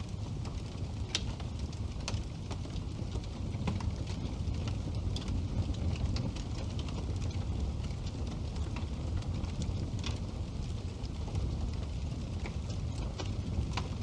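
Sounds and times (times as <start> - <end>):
burning wood crackling and popping: 0.0 - 14.0
fireplace flames rumbling: 0.0 - 14.0.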